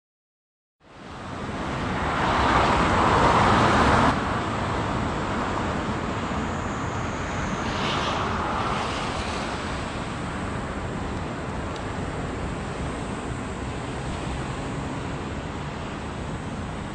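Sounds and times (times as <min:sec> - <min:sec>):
road traffic rushing: 0:00.8 - 0:16.9.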